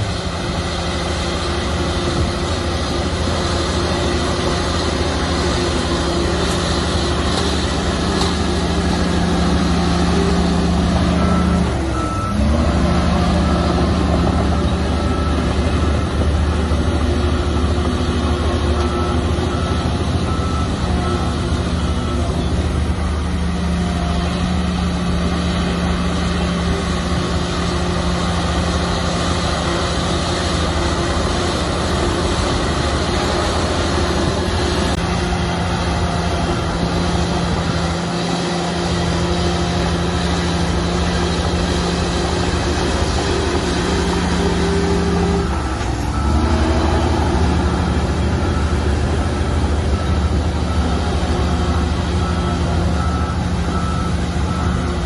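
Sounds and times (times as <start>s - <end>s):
bulldozer diesel engine running: 0.0s - 55.0s
reversing alarm beeping: 0.2s - 55.0s.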